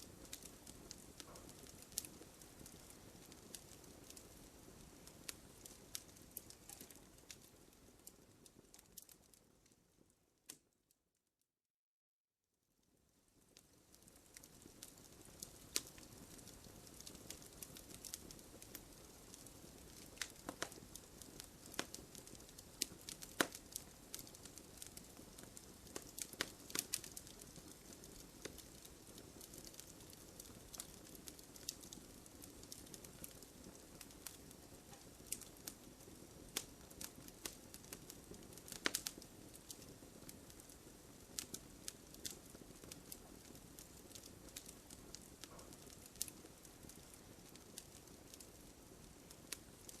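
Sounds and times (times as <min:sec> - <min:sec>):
wood fire crackling: 0:00.0 - 0:10.7, 0:12.8 - 0:50.0.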